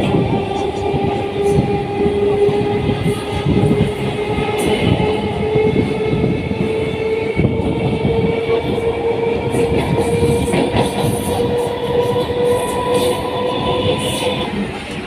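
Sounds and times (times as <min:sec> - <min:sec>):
freight train passing: 0:00.0 - 0:15.0
train rumbling on rails: 0:00.0 - 0:15.0.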